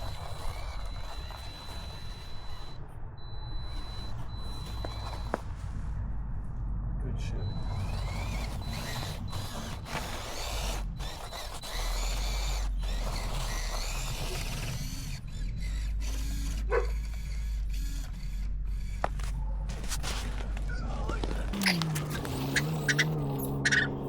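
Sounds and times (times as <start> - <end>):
toy car motor and gears whining: 0.0 - 6.0, 7.2 - 24.0.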